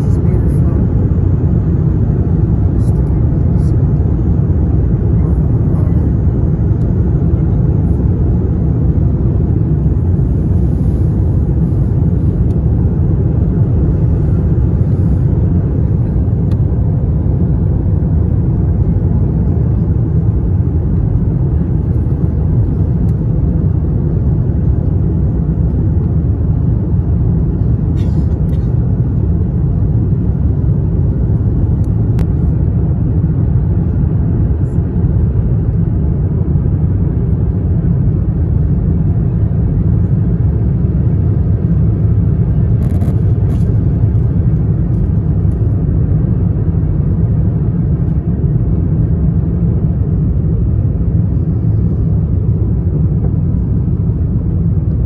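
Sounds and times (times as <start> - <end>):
airliner engines rumbling: 0.0 - 55.0.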